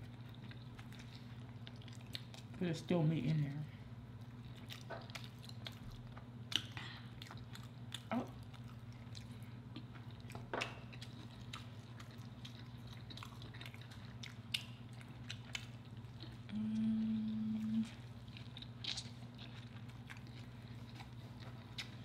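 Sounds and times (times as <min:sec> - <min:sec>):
person chewing food: 0:00.0 - 0:02.6, 0:04.1 - 0:22.0
steady low hum: 0:00.0 - 0:22.0.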